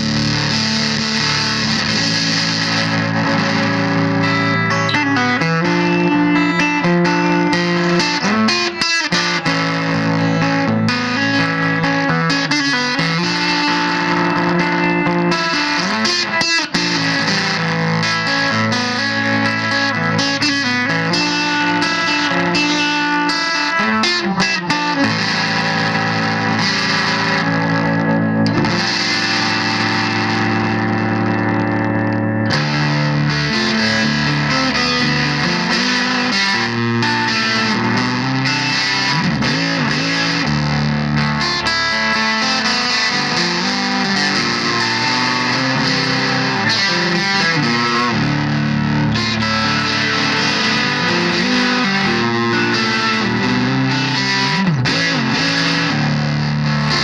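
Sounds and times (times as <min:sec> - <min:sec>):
distorted fuzz electric guitar: 0:00.0 - 0:57.0.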